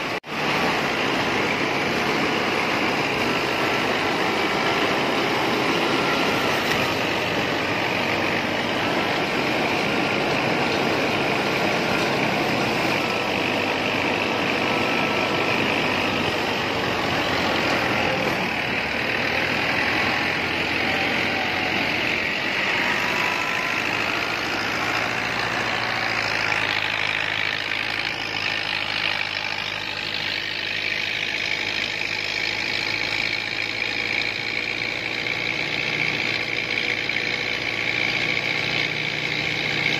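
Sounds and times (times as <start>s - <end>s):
thresher running: 0.0s - 39.9s
tractor engine: 0.0s - 39.9s.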